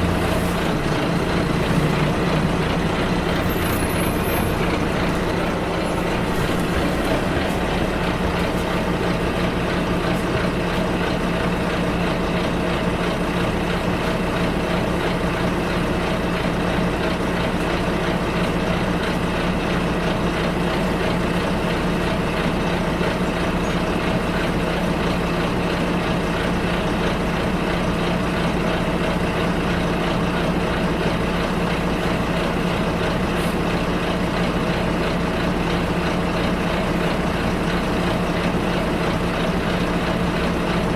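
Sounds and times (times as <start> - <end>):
bus engine humming: 0.0 - 40.9.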